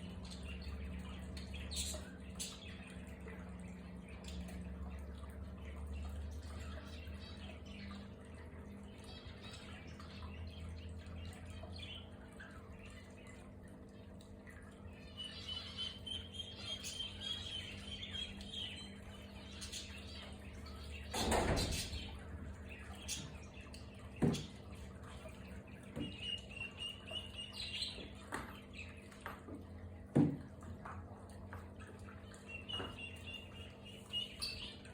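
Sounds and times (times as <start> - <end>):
small birds chirping: 0.0 - 29.9, 31.7 - 34.9
faint steady hum: 0.0 - 34.9.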